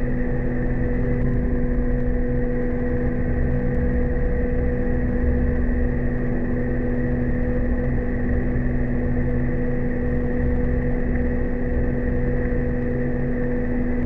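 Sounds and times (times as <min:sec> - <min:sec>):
machinery humming and rumbling: 0:00.0 - 0:14.0.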